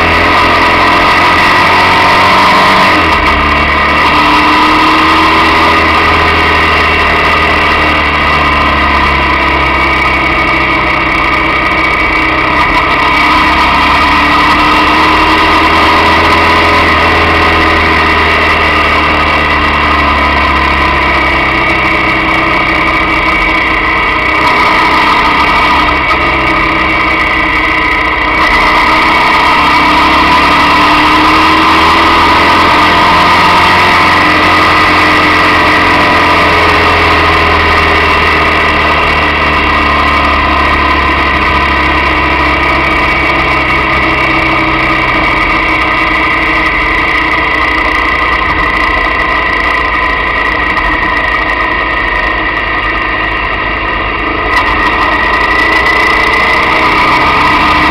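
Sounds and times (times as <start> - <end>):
motorcycle engine running: 0.0 - 57.9
road and wind noise: 0.0 - 57.9.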